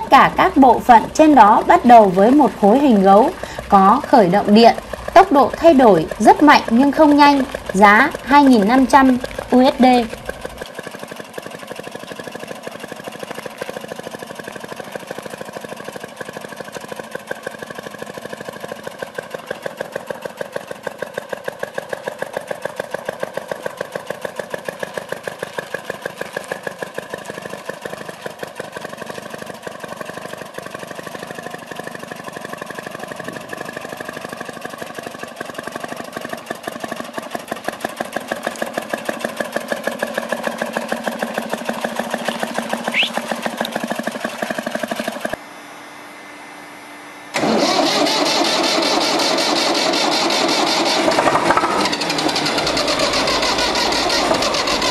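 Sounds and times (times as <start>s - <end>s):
tractor engine chugging: 0.0s - 45.4s, 47.4s - 54.9s.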